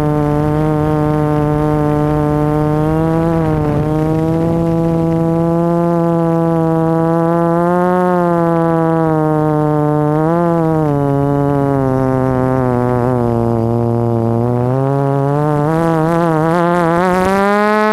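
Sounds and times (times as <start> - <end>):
model aircraft motor buzzing: 0.0 - 17.9.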